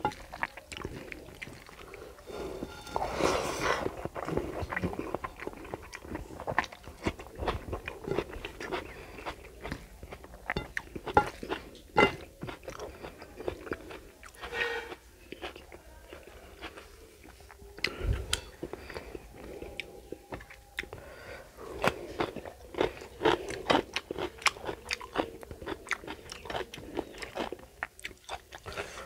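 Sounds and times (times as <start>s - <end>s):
close chewing with crunchy bites: 0.0s - 3.1s, 3.7s - 29.0s.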